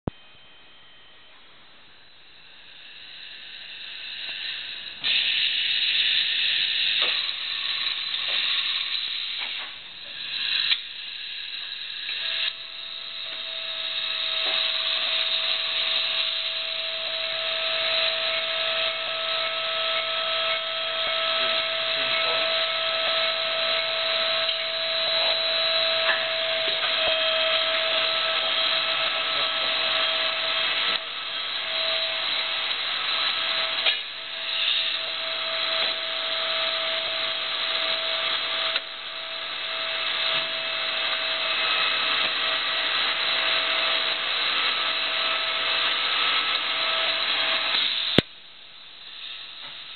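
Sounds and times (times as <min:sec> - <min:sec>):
steady machine whine: 0:00.0 - 0:49.9
machine loud steady hiss: 0:00.1 - 0:49.9.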